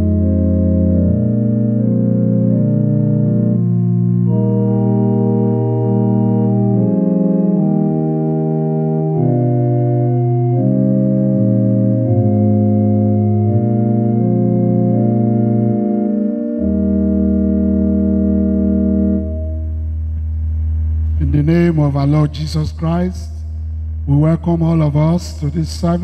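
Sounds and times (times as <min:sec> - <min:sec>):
organ playing sustained chords: 0:00.0 - 0:26.0.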